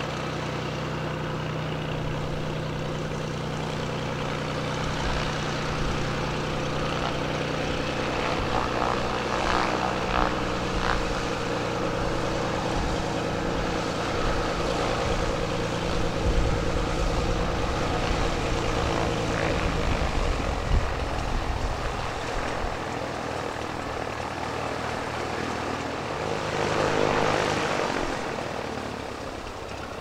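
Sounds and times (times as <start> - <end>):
propeller plane engine running: 0.0 - 30.0.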